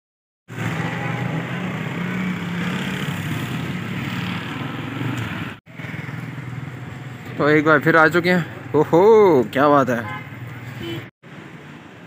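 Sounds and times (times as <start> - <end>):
wind and road noise: 0.5 - 12.0.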